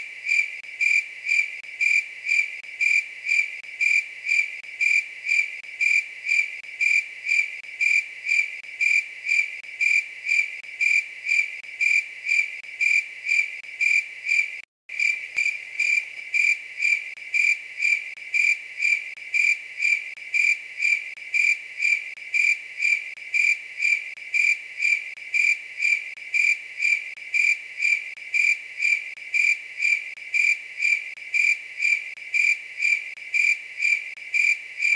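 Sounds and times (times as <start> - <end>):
insect chirping: 0.0 - 34.9.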